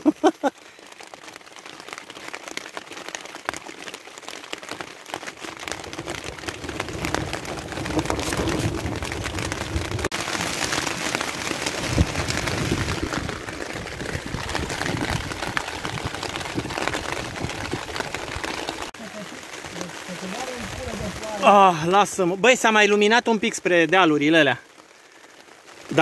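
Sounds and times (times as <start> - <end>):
rain on plastic sheet: 0.0 - 26.0.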